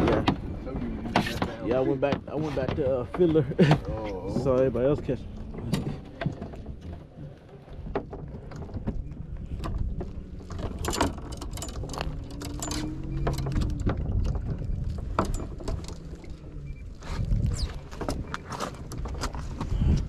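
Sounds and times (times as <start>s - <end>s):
low rumble of a boat: 0.0s - 20.0s.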